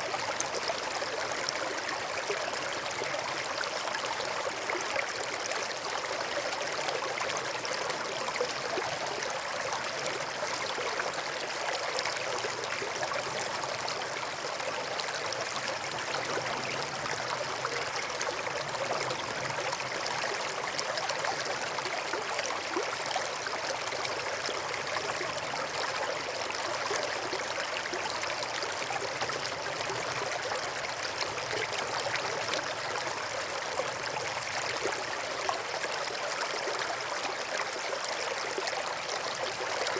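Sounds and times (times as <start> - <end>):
brook flowing: 0.0 - 39.9.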